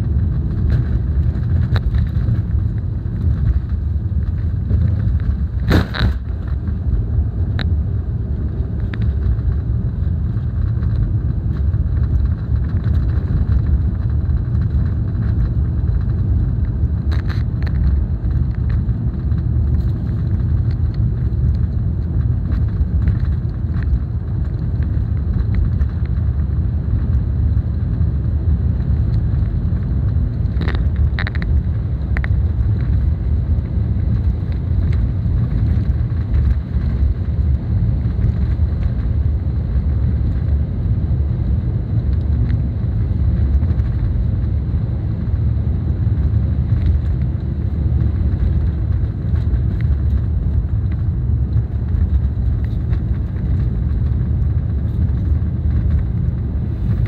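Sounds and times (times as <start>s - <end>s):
car engine rumble: 0.0s - 57.0s
tyres on the road: 0.0s - 57.0s.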